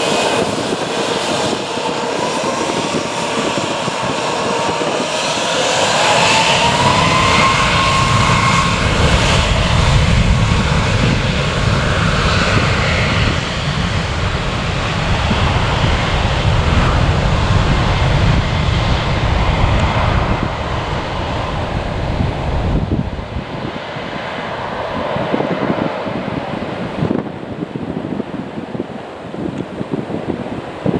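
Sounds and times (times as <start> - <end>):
airliner engines at takeoff: 0.0 - 30.9.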